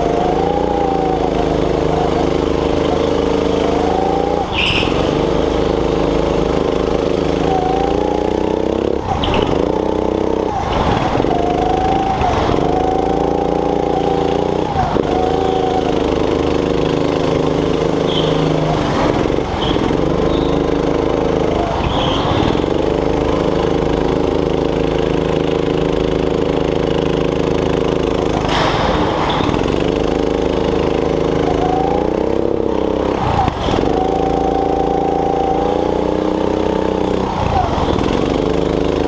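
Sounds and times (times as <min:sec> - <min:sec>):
go-kart engine revving: 0:00.0 - 0:39.0.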